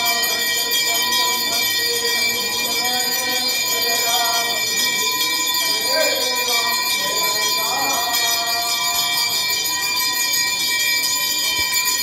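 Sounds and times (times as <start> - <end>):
temple bells ringing: 0.0 - 12.0.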